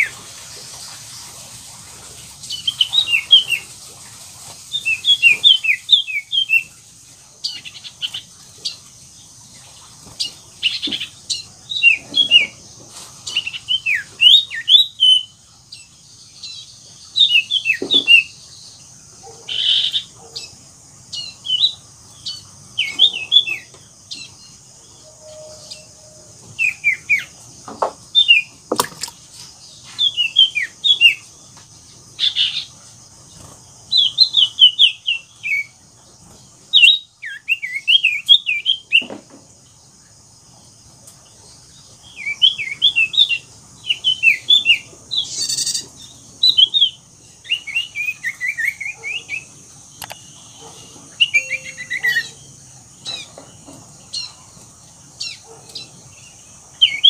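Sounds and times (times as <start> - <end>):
bird singing: 2.6 - 3.7, 4.8 - 6.8, 7.4 - 39.8, 41.3 - 57.0.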